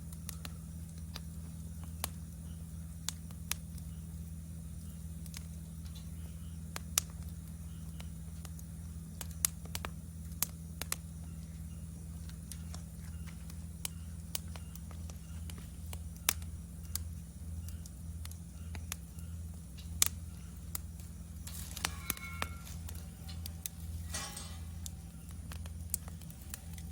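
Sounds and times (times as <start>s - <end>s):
high insect trill: 0.0s - 26.9s
steady low hum: 0.0s - 26.9s
wood fire crackling and popping: 0.0s - 26.9s.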